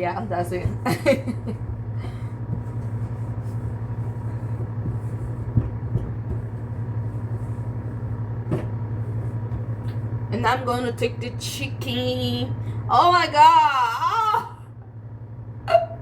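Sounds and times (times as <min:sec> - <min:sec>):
kitchen appliance humming: 0:00.0 - 0:15.6.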